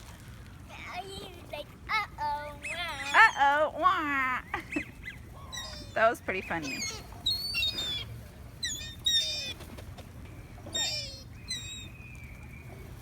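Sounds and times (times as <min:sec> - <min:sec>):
birds chirping: 0:00.7 - 0:13.0.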